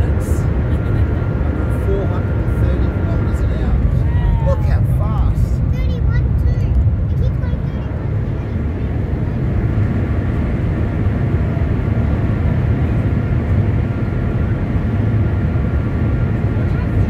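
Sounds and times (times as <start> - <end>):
low train cabin rumble: 0.0 - 17.0.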